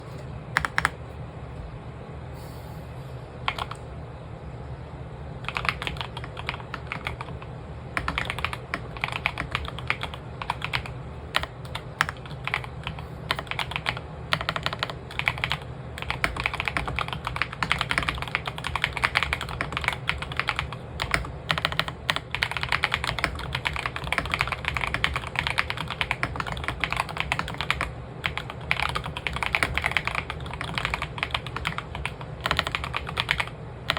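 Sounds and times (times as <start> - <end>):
typing on a keyboard: 0.6 - 1.0, 3.5 - 3.8, 5.5 - 7.4, 8.0 - 33.9.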